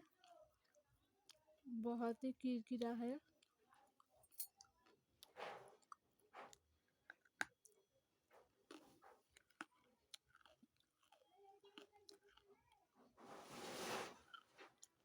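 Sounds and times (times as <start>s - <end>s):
chewing and crunching: 0.0s - 1.7s, 2.8s - 13.2s, 14.2s - 15.0s.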